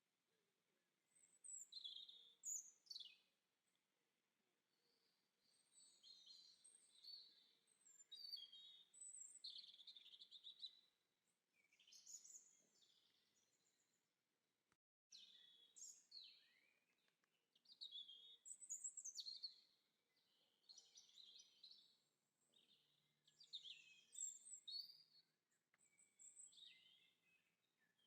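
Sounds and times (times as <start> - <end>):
small birds chirping and trilling: 1.1 - 3.3, 4.8 - 10.9, 11.6 - 13.9, 15.1 - 28.0.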